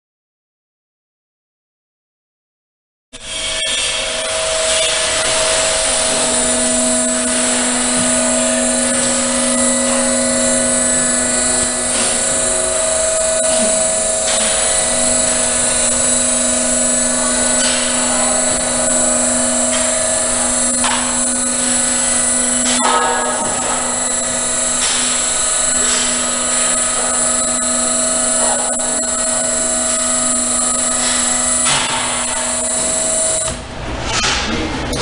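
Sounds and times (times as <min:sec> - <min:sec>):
electric pump whining and humming: 0:03.2 - 0:33.9.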